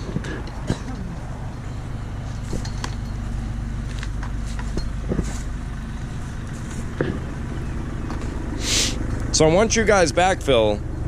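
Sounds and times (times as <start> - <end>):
backhoe engine idling: 0.0 - 11.0.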